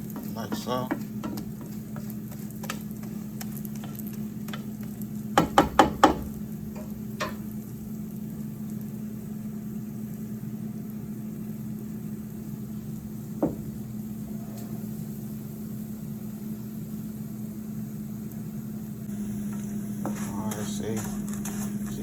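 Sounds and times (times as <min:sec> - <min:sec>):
appliance fan and motor hum: 0:00.0 - 0:22.0.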